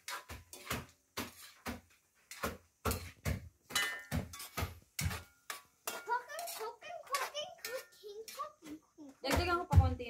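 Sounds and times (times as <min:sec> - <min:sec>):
utensil scraping a steel wok: 0:00.0 - 0:09.0.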